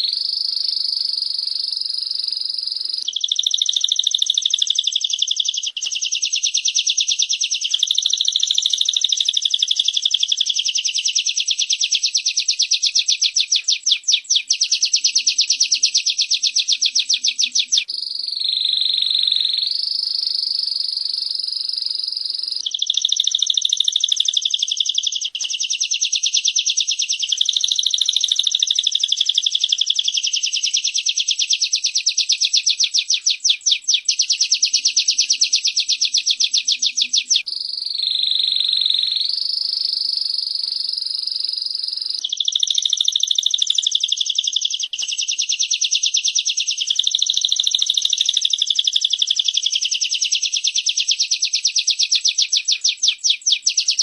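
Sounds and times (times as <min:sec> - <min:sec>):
bird steady buzzing: 0:00.0 - 0:49.8
bird buzzy trill: 0:00.0 - 0:54.0.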